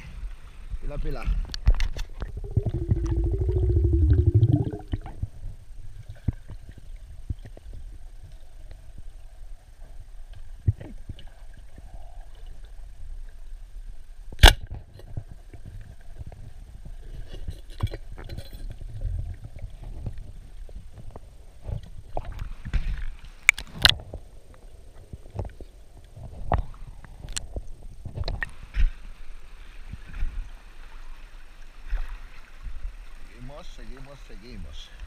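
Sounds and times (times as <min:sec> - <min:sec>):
underwater rumble of moving water: 0:00.0 - 0:14.3, 0:14.9 - 0:35.0.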